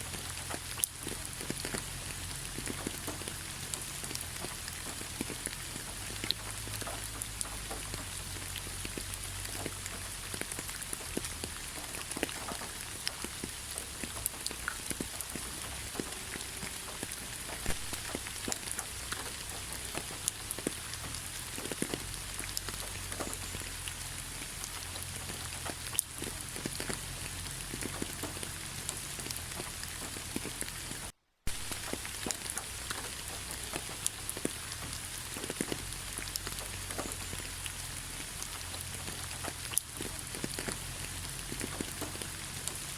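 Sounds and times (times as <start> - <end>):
rain falling: 0.0 - 42.9
raindrops ticking: 0.0 - 42.9.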